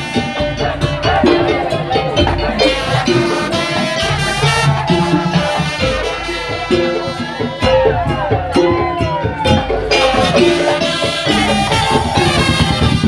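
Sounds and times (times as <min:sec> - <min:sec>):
driving percussion: 0:00.0 - 0:13.0
pitched melody: 0:00.0 - 0:13.0.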